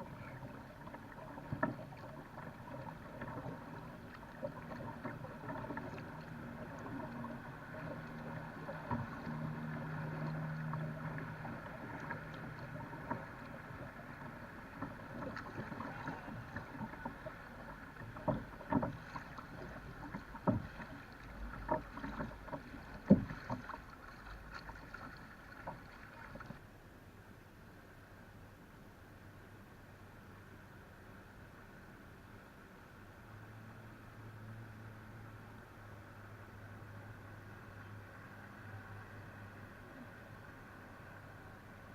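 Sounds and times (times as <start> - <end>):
jetski engine droning: 0.0 - 26.6, 33.2 - 41.9.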